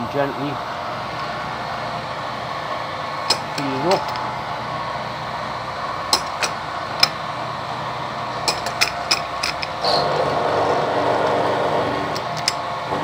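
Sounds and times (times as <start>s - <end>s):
milling machine cutting steel: 1.0s - 13.0s.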